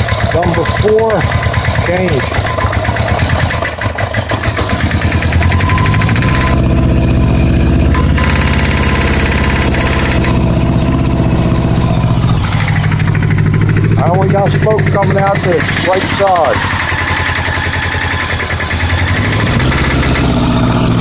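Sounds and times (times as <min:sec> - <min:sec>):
motorcycle engine idling with clatter: 0:00.0 - 0:21.0.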